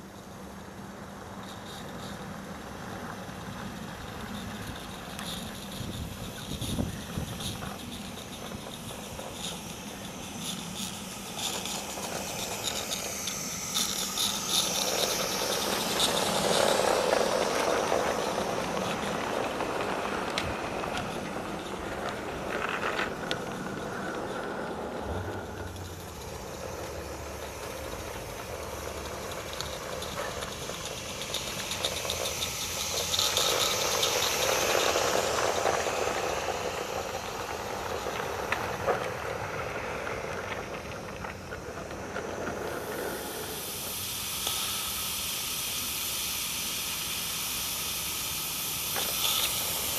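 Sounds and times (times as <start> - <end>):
model train running: 0.0 - 49.9
wheels clicking on track: 0.0 - 49.9.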